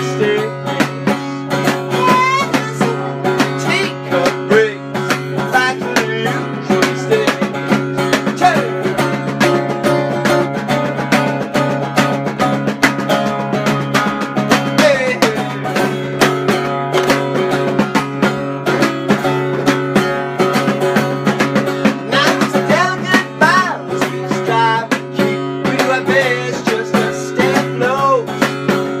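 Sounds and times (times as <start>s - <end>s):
plucked strings with buzzing tone: 0.0s - 29.0s.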